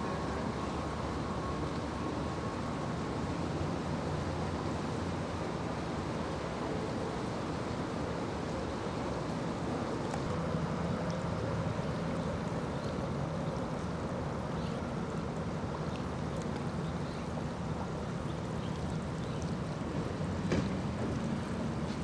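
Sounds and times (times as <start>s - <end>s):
low engine hum: 0.0s - 22.0s
rushing floodwater: 0.0s - 22.0s.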